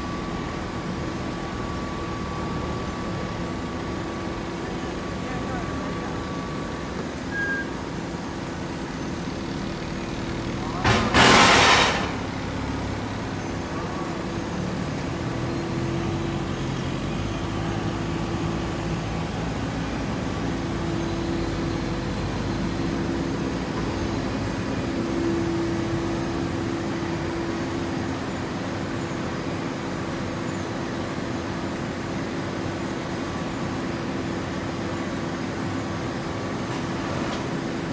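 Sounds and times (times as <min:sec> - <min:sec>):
machinery drone with low hum: 0:00.0 - 0:37.9.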